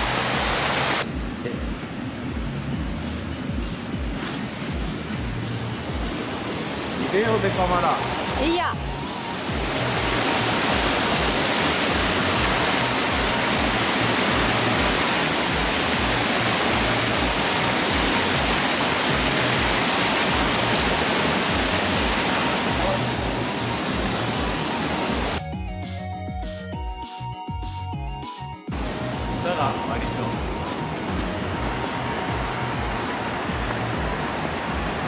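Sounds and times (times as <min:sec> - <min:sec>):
running water rushing: 0:00.0 - 0:25.4, 0:28.7 - 0:35.0
background music with low beat: 0:00.0 - 0:35.0.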